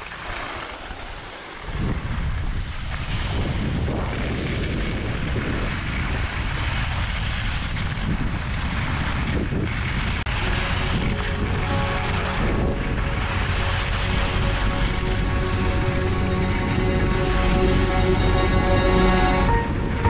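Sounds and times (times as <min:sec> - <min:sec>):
skis hissing on snow: 0:00.0 - 0:17.4
wind rushing over microphone: 0:00.0 - 0:20.0.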